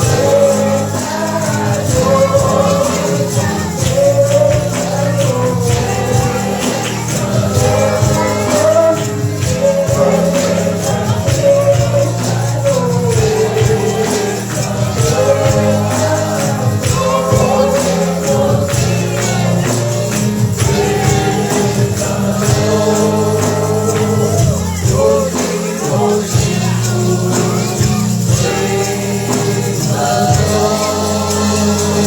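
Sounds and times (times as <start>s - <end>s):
band with bass: 0.0s - 32.0s
congregation gospel singing: 0.0s - 32.0s
tambourine shaken and struck: 0.0s - 32.0s.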